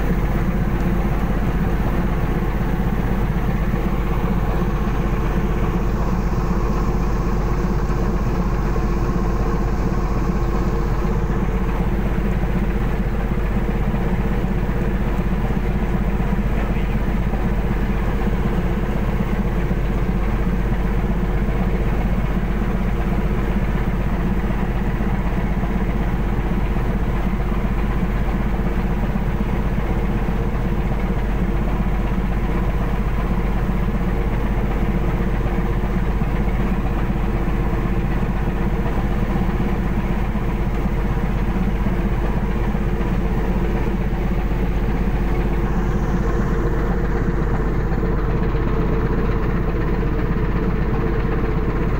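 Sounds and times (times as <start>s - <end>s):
diesel engine humming: 0.0s - 51.9s.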